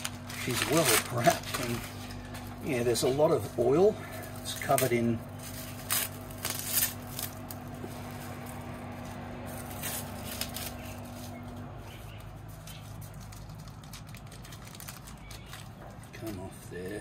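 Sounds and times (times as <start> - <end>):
steady low hum: 0.0 - 17.0
wrapping rustling and crinkling: 0.0 - 17.0.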